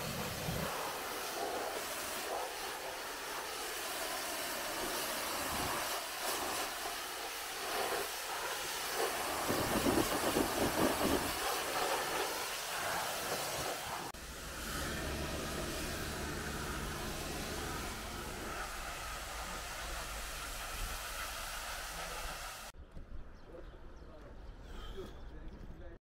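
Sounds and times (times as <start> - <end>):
pressure washer spray hissing: 0.0 - 22.8.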